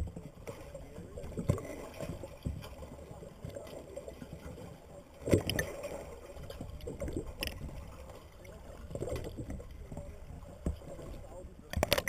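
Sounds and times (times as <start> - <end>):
underwater sloshing and bubbling: 0.0 - 12.0.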